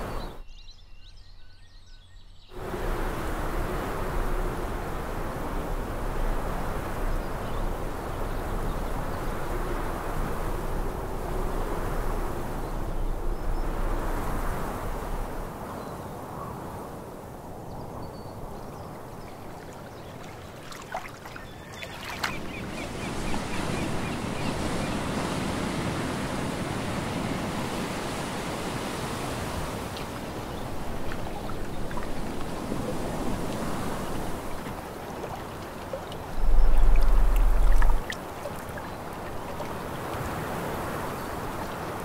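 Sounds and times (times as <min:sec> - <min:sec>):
waves rushing: 0:02.6 - 0:16.4, 0:18.4 - 0:42.0.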